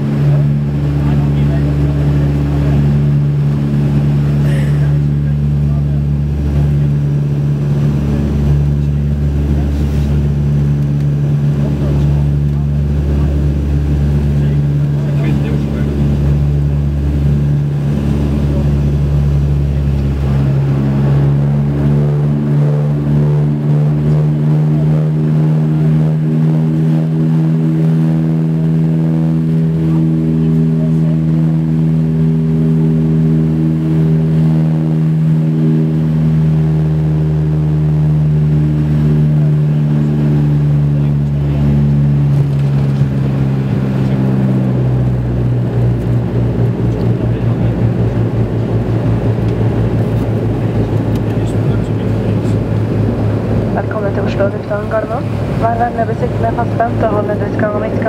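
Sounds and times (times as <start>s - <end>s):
aircraft rolling on runway rumble: 0.0s - 58.0s
propeller drone: 0.0s - 58.0s.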